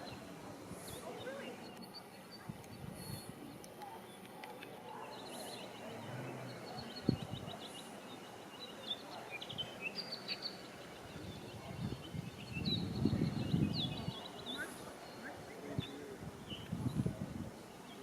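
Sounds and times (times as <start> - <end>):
small birds chirping: 0.0 - 18.0
steady outdoor hiss: 0.0 - 18.0.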